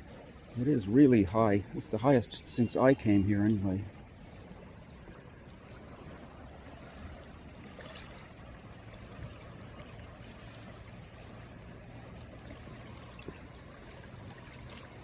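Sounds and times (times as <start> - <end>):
river flowing water: 0.0 - 15.0.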